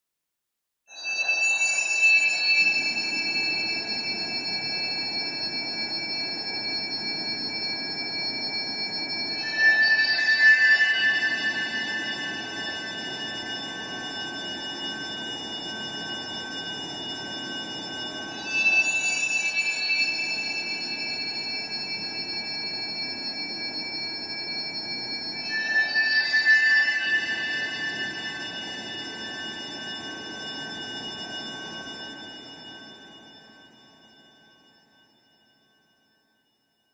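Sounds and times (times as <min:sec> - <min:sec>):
high metallic ringing tones: 0:01.0 - 0:34.8.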